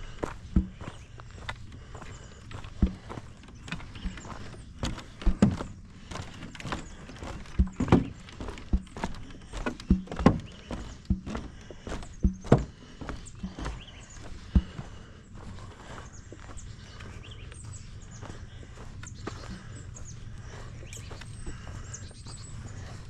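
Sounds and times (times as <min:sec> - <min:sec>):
footsteps on dirt trail: 0:00.0 - 0:23.0.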